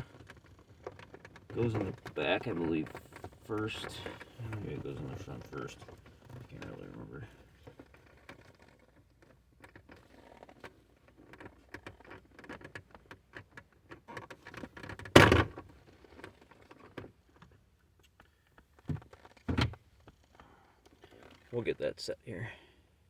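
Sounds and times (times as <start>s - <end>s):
rustling and light clicking: 0.0s - 21.6s.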